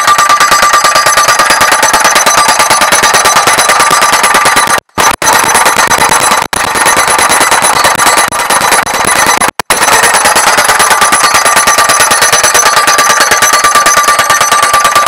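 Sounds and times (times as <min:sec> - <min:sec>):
pile driver hammering steel post: 0:00.0 - 0:15.0.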